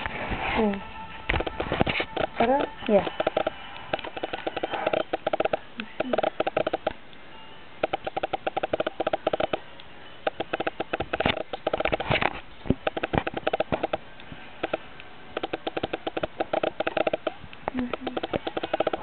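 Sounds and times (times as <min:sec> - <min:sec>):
rapid irregular clicking and tapping: 0:01.2 - 0:07.2, 0:07.8 - 0:19.0.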